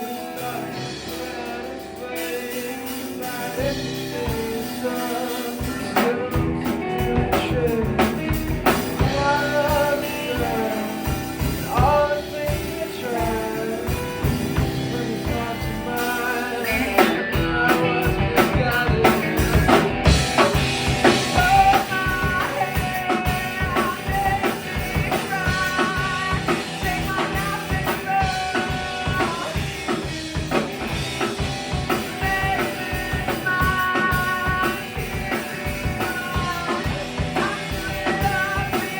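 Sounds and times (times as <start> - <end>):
drum kit steady beat: 0.0 - 38.9
live band playing punk song: 0.0 - 38.9.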